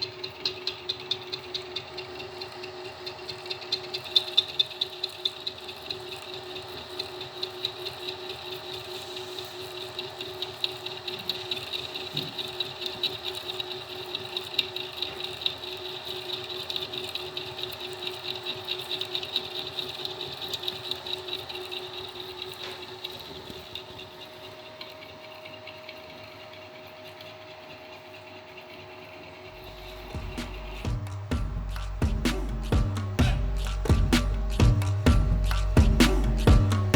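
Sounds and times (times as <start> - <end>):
milling machine whine: 0.0 - 36.9.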